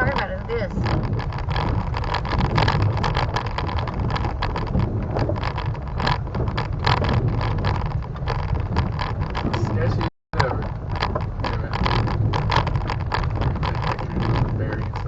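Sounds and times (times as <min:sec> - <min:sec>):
low road rumble: 0:00.0 - 0:15.0.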